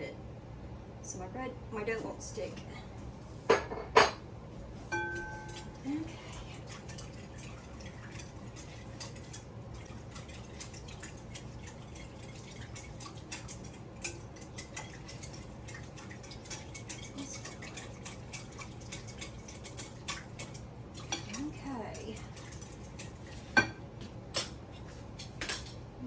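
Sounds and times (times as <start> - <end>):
steady low hum: 0.0 - 26.0
mixing bowl being handled: 4.7 - 25.8.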